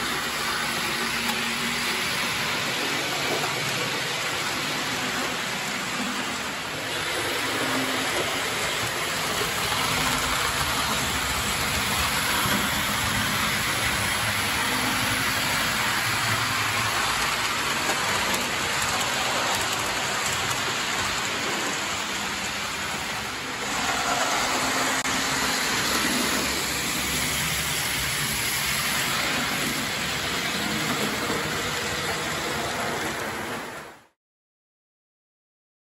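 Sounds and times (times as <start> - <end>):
model train wheels rattling: 0.0 - 33.8.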